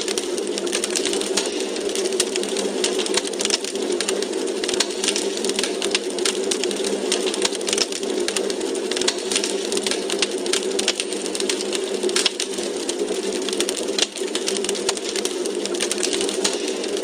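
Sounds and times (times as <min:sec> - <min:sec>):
sharp pops and snaps: 0:00.0 - 0:17.0
steady rushing hiss: 0:00.0 - 0:17.0
wood fire crackling: 0:00.0 - 0:17.0.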